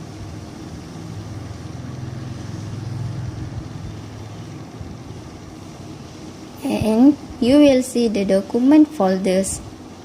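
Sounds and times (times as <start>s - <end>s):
faint hiss: 0.0s - 10.0s
low background hum: 0.0s - 10.0s.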